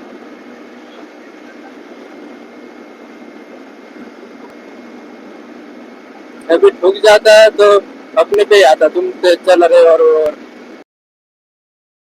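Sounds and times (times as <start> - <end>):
wind and road noise: 0.0 - 10.8.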